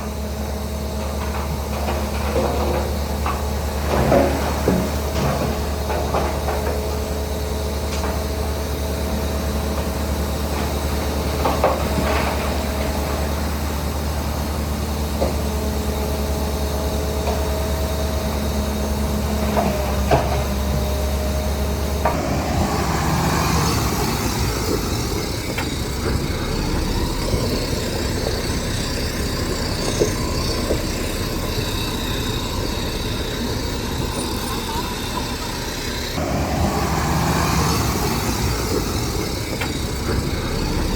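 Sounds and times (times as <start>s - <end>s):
heavy diesel machinery drone: 0.0s - 40.9s.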